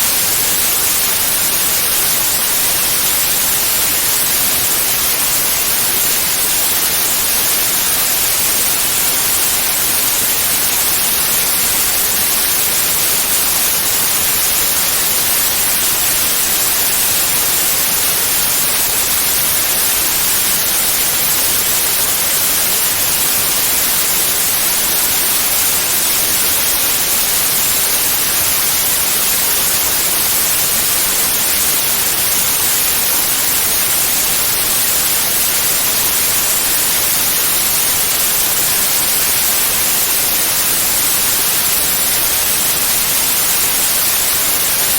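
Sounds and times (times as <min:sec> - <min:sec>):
white noise hiss: 0:00.0 - 0:44.9.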